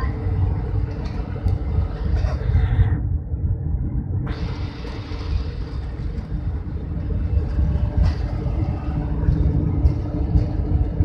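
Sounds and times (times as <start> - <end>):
airplane cabin rumble: 0.0 - 11.0
constant hum: 0.0 - 11.0.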